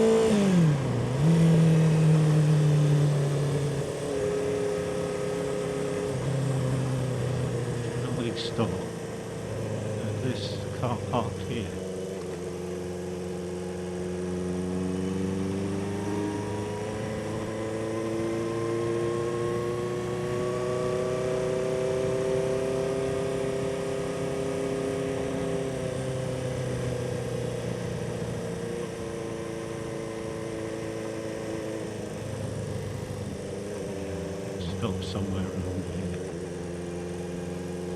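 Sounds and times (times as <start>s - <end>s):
motorcycle engine at low revs: 0.0s - 37.9s.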